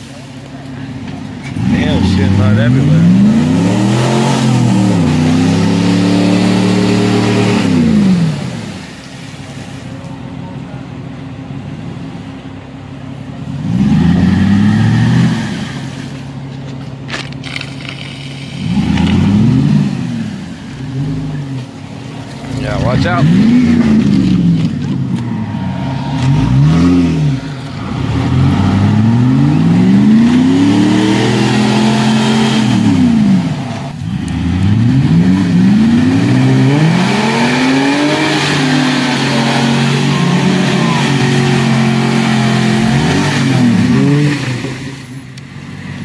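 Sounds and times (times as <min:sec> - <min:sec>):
off-road vehicle engines revving: 0:00.0 - 0:46.0.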